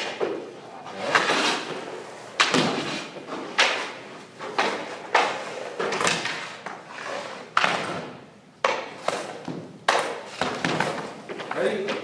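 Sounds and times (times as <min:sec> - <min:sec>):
hockey sticks and puck hitting: 0:00.0 - 0:12.0
skates scraping ice: 0:00.9 - 0:12.0.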